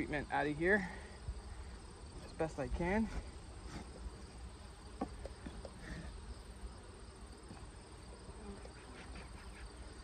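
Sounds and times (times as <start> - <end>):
bees humming: 0.0 - 10.0.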